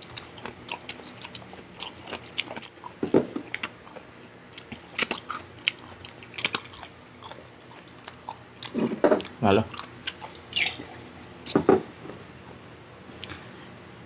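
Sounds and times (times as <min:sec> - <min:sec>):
crunchy chewing: 0:00.0 - 0:11.6.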